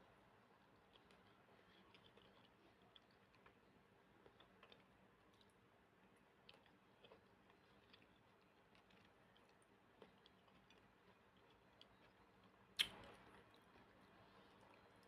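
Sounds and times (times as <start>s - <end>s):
person chewing fruit: 0.6s - 15.0s.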